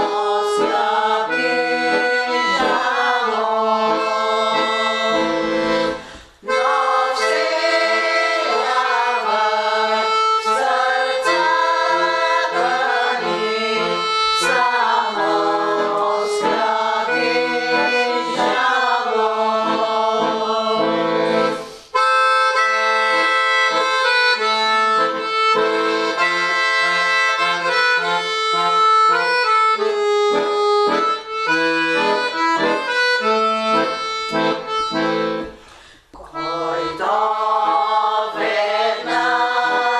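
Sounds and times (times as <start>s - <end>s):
instrumental folk music: 0.0s - 39.9s.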